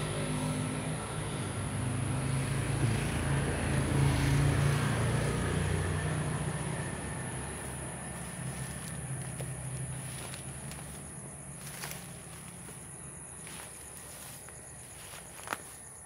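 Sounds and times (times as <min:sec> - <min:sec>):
passing vehicle engine droning: 0:00.0 - 0:16.0.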